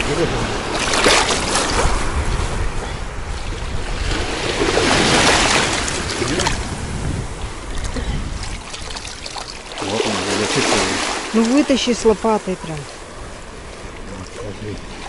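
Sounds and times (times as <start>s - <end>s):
small waves washing over sand: 0.0s - 15.0s
wind buffeting microphone: 0.0s - 15.0s.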